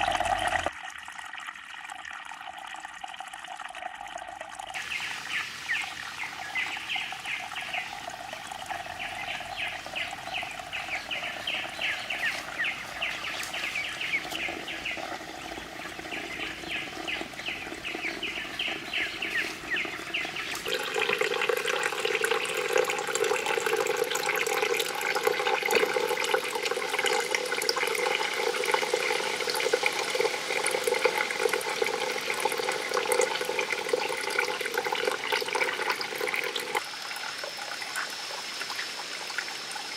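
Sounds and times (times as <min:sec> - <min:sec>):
water running and splashing: 0:00.0 - 0:39.9.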